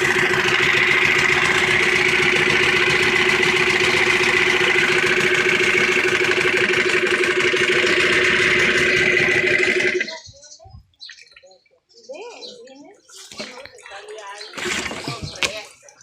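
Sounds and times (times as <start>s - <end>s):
outboard motor running: 0.0s - 10.4s, 13.1s - 16.0s.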